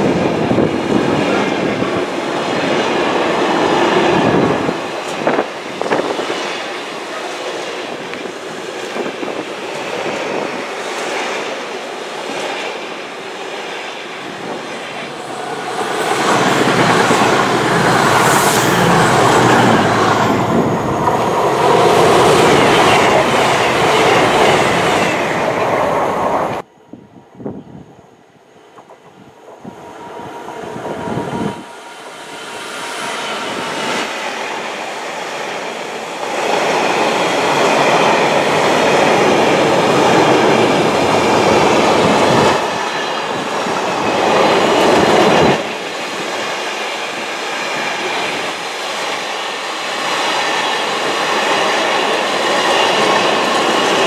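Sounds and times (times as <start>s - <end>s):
diesel locomotive: 0.0s - 54.0s.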